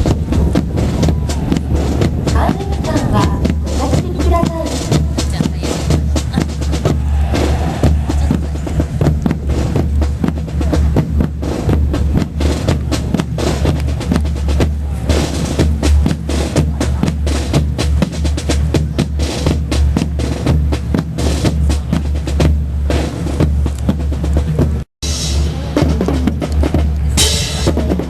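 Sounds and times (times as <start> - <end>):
marching band music: 0.0 - 28.0
pounding bass drum: 0.0 - 28.0
snare drum rolls: 0.0 - 28.0.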